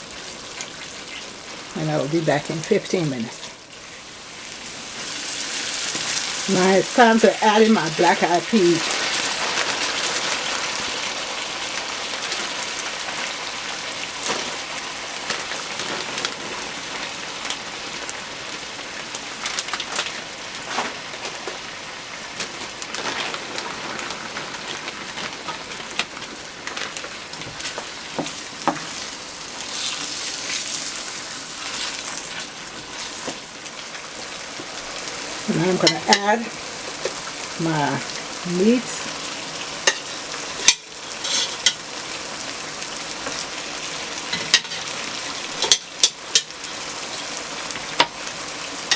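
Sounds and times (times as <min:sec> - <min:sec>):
vegetables sizzling in oil: 0:00.0 - 0:48.9.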